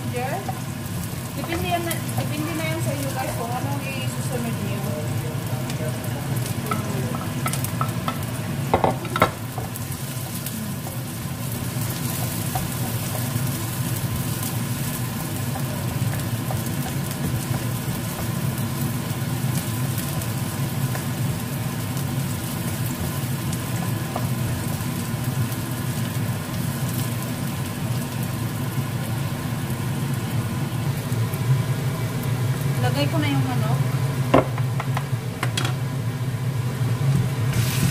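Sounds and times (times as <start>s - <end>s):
onion sizzling in oil: 0.0s - 37.9s.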